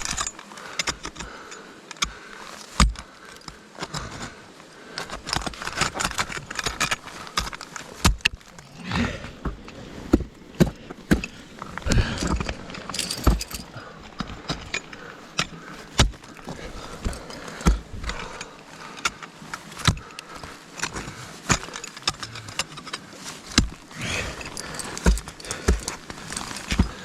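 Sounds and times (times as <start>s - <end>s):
metal climbing gear clinking: 0.0s - 27.0s.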